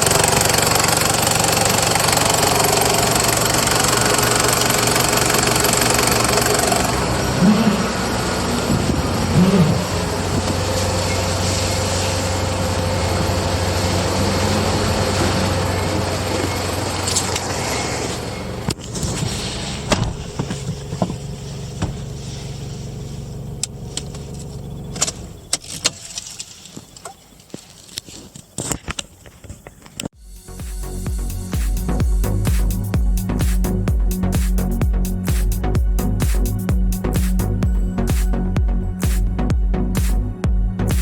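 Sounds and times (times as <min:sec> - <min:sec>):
diesel engine running: 0:00.0 - 0:25.7, 0:30.2 - 0:41.0.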